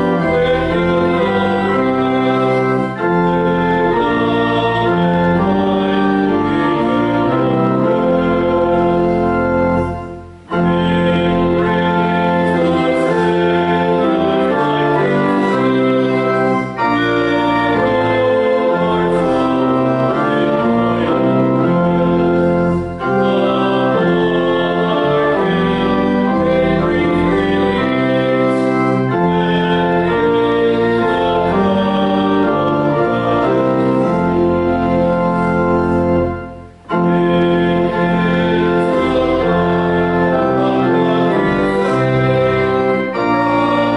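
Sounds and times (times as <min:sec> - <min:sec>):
church organ playing chords: 0:00.0 - 0:43.9.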